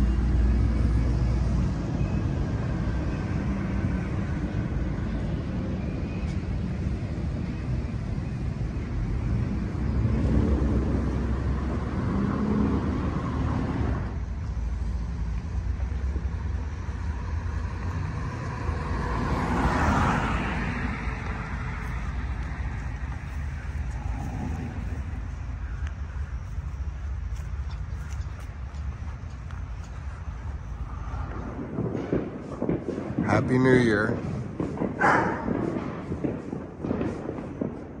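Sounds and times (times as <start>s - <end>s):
low traffic rumble: 0.0s - 38.0s
vehicles passing on a street: 0.0s - 38.0s.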